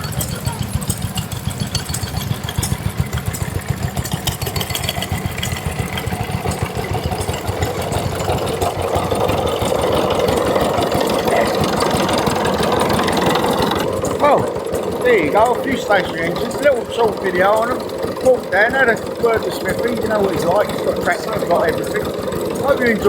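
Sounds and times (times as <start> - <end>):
higher-pitched running engine: 0.0 - 23.0
stationary engines pulsing: 0.0 - 23.0.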